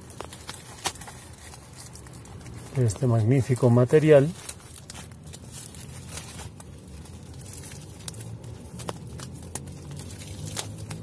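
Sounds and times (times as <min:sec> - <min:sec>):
plastic wrap crackling: 0:00.0 - 0:11.0.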